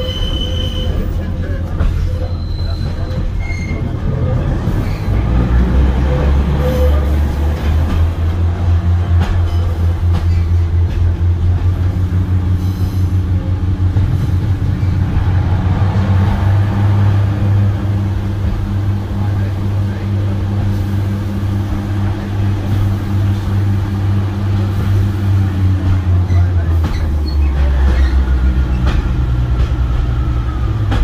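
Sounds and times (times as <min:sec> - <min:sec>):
diesel train engine drone: 0:00.0 - 0:31.0.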